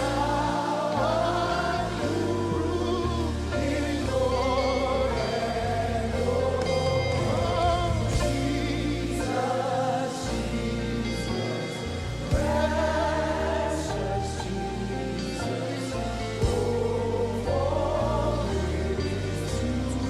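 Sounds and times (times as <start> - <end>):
bass and keyboard chords: 0.0 - 20.0
gospel singing voices: 0.0 - 20.0.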